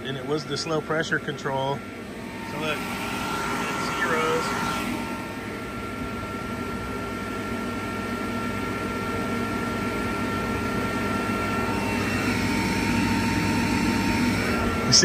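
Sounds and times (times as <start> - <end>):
machine drone with high whine: 0.0 - 15.0.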